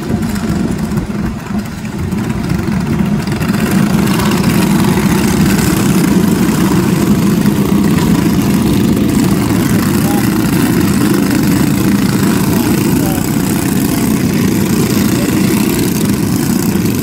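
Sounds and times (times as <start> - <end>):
small race car engines idling: 0.0 - 17.0.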